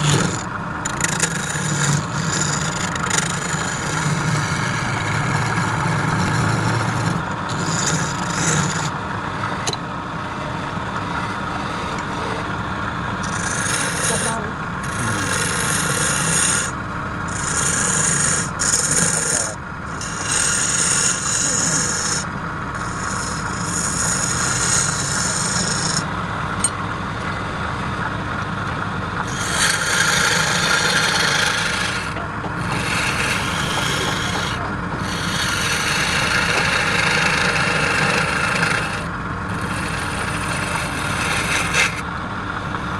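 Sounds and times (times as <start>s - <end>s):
spinning wood being cut: 0.0s - 26.6s, 29.1s - 42.9s
wood lathe motor hum: 0.0s - 42.9s.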